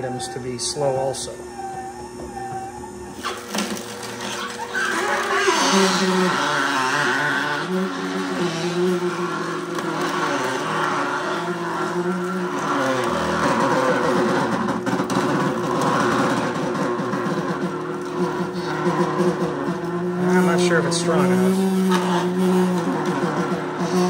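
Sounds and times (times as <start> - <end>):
juicer motor crushing vegetables: 0.0 - 24.0.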